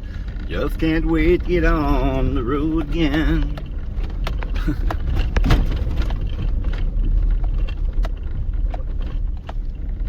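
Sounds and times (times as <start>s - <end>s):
knocks and rattles over bumps: 0.0s - 10.0s
vehicle rumbling on dirt road: 0.0s - 10.0s.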